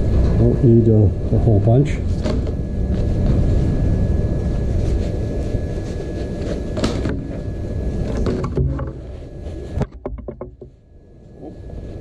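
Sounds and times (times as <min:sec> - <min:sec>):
steady low rumble: 0:00.0 - 0:09.8
thin steady whine: 0:00.0 - 0:12.0.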